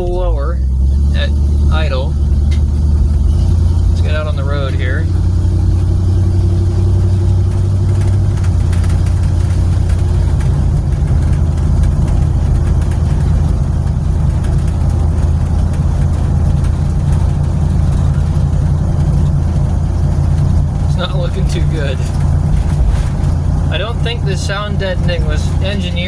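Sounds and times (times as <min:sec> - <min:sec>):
car engine drone: 0:00.0 - 0:26.0
road noise: 0:00.0 - 0:26.0.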